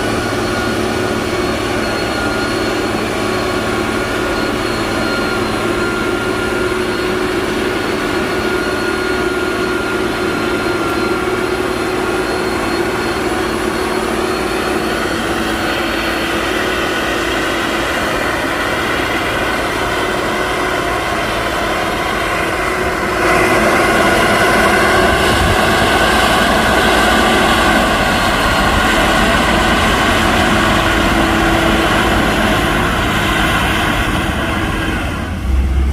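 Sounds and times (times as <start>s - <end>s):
heavy diesel engine running: 0.0s - 35.9s
high whine: 0.0s - 35.9s.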